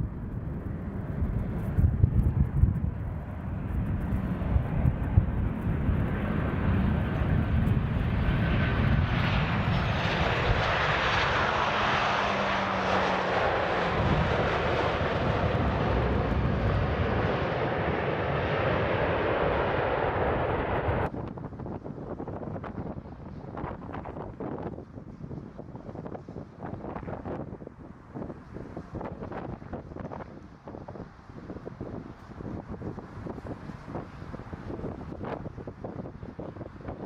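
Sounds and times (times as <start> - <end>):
jet airliner engines roaring: 0.0 - 37.0.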